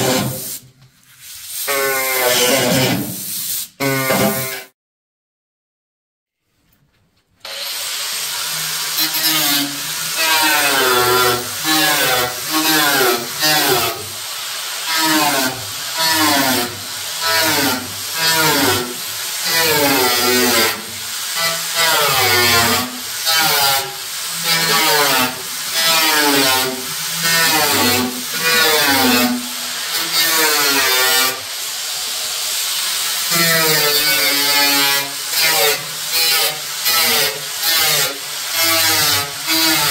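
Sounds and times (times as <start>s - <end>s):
angle grinder cutting steel: 7.4s - 39.9s.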